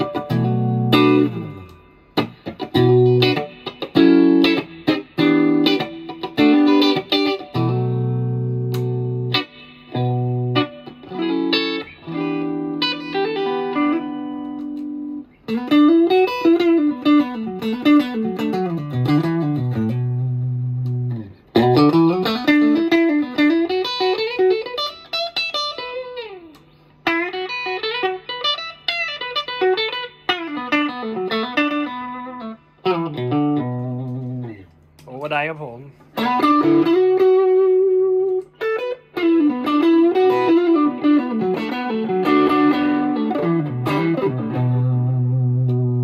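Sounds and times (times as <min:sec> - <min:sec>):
clean electric guitar: 0:00.0 - 0:35.2, 0:35.8 - 0:46.0.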